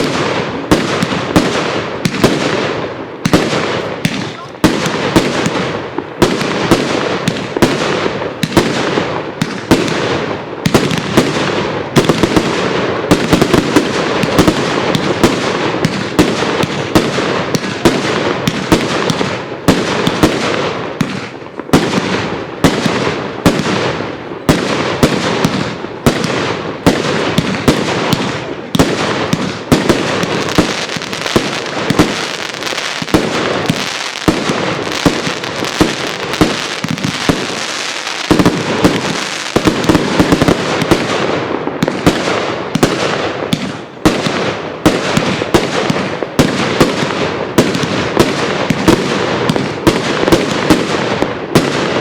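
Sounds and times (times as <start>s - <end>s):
fireworks shots and bursts: 0.0s - 52.0s.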